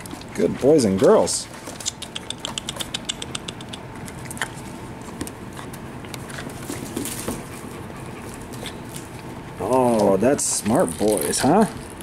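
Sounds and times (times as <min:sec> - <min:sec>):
puppies scuffling on tile floor: 0:00.0 - 0:12.0.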